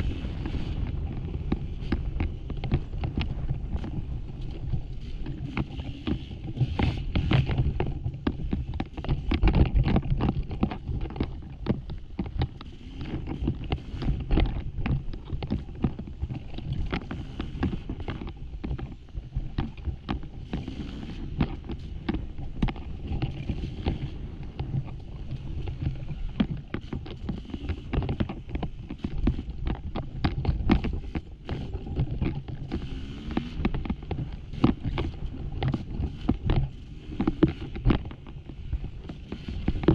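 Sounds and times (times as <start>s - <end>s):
rocks knocking and clattering: 0.0s - 39.9s
wind on microphone: 0.0s - 39.9s.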